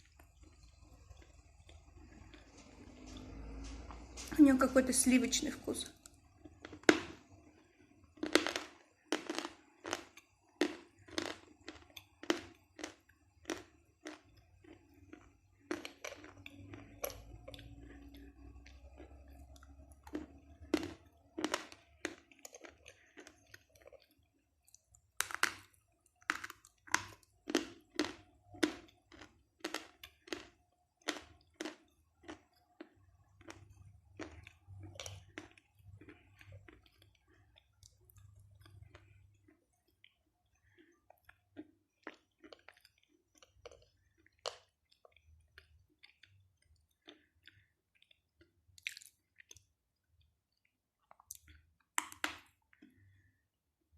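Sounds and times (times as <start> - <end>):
chalk crunching and chewing: 0.0 - 4.3, 6.0 - 53.2.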